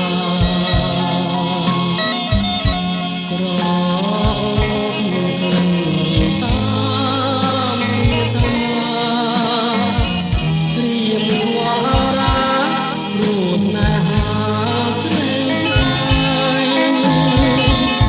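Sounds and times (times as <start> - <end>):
song with sung vocal over beat: 0.0 - 18.0.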